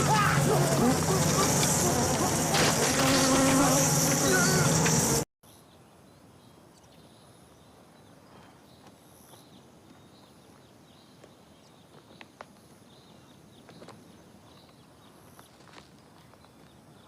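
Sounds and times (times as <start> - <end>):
faint forest ambience: 0.0 - 17.0.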